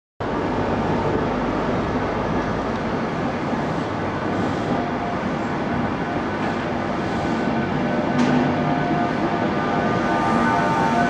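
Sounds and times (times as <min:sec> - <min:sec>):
train wheels rumbling on rails: 0:00.2 - 0:11.0.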